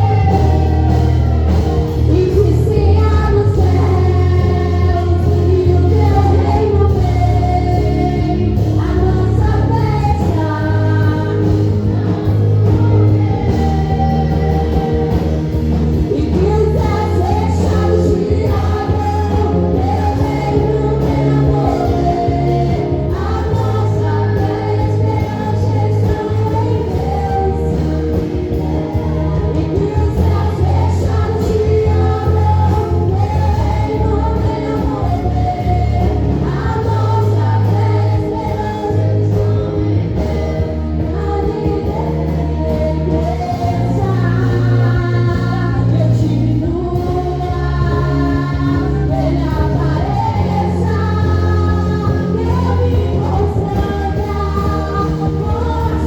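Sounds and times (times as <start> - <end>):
live gospel music: 0.0 - 56.0.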